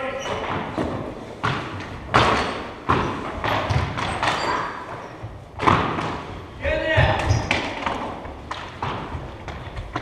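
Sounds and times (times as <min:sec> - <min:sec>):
hockey sticks knocking on floor: 0:00.4 - 0:04.6, 0:05.6 - 0:10.0.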